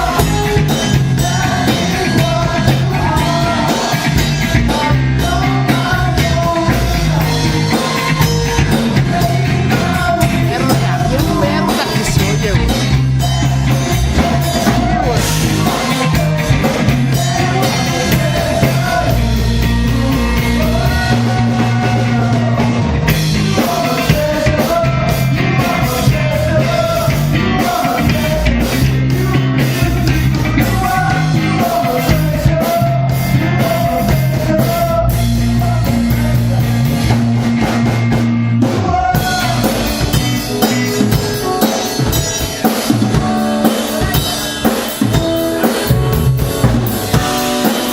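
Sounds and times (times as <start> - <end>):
person singing: 0.0 - 37.3, 38.6 - 47.9
drum kit: 0.0 - 47.9
sustained bass notes: 0.0 - 47.9.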